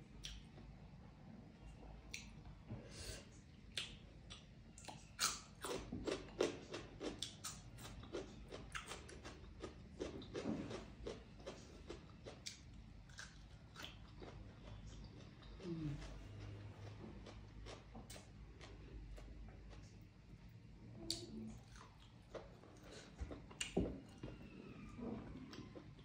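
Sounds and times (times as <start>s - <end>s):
person chewing food with wet smacks: 0.1s - 0.8s, 1.6s - 2.6s, 3.5s - 24.5s.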